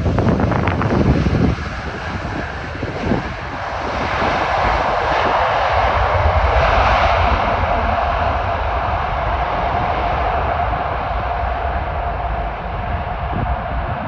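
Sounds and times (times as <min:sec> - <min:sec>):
jet airliner landing roar: 0:00.0 - 0:14.0.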